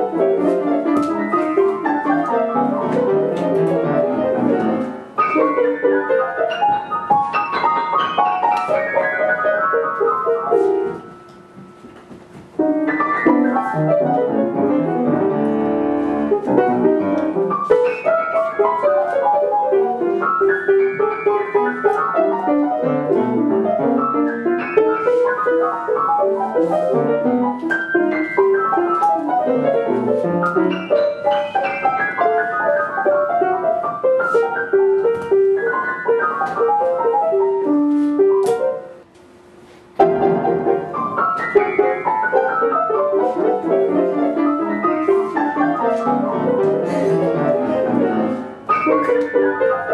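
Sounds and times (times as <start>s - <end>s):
solo piano music: 0.0s - 49.9s.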